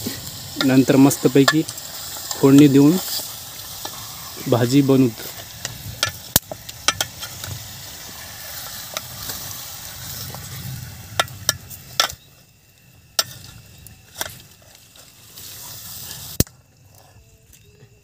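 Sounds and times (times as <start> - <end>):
low sizzle: 0.0 - 18.0.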